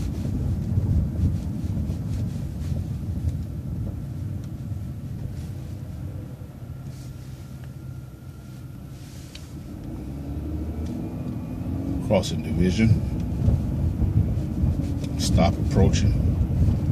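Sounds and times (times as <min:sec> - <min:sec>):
bus engine and road rumble: 0:00.0 - 0:16.9.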